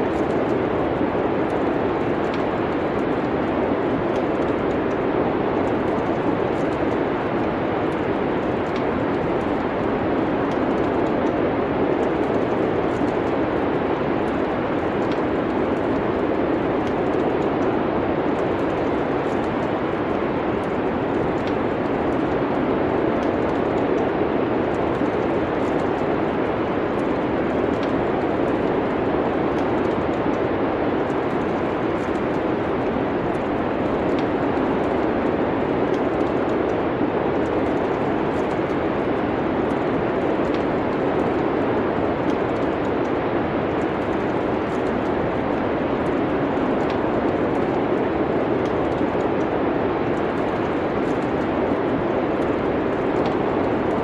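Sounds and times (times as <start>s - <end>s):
faint wood fire crackles: 0.0s - 54.0s.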